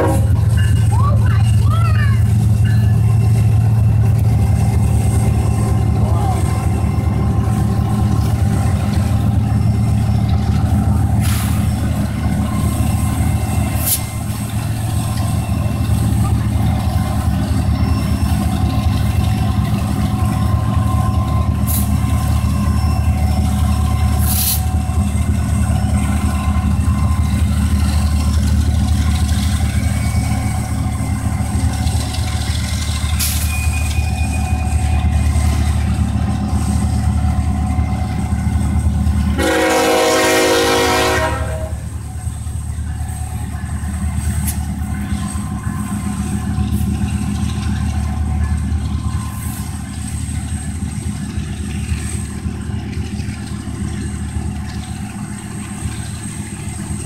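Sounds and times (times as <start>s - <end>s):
diesel locomotive engines droning: 0.0s - 57.0s
clicks from rolling train: 7.5s - 57.0s.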